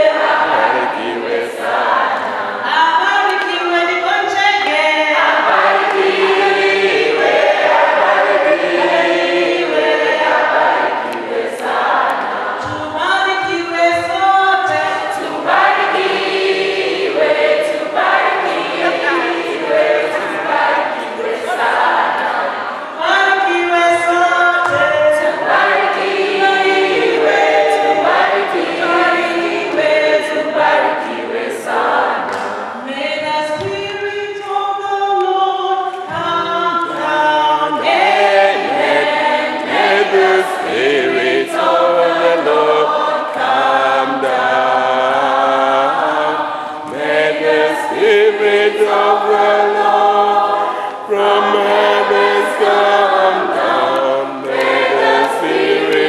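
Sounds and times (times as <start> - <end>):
choir singing: 0.0 - 2.9, 4.2 - 33.3, 35.1 - 56.0.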